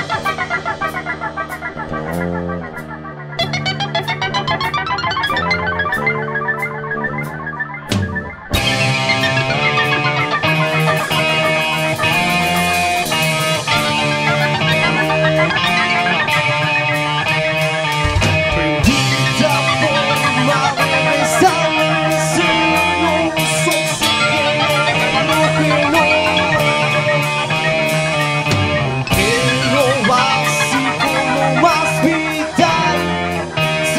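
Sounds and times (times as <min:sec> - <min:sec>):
bass: 0:00.0 - 0:33.9
drums: 0:00.0 - 0:33.9
electric guitars: 0:00.0 - 0:33.9.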